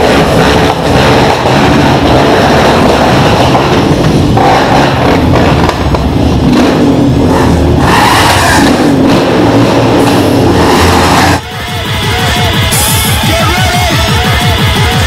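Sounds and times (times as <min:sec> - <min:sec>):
motorcycle and quad bike engines: 0:00.0 - 0:15.0.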